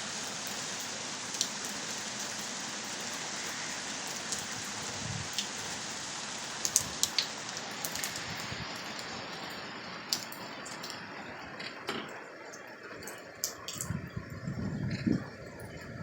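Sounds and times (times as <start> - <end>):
heavy rain: 0.0 - 16.0
raindrops tapping a surface: 0.1 - 14.0.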